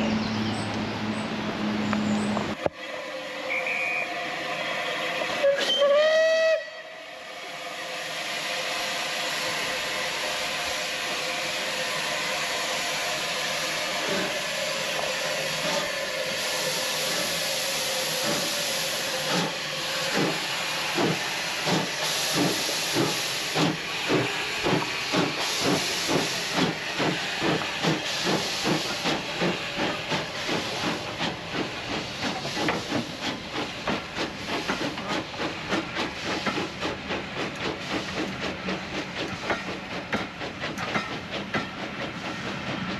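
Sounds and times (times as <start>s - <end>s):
steam locomotive hissing: 1.2s - 42.9s.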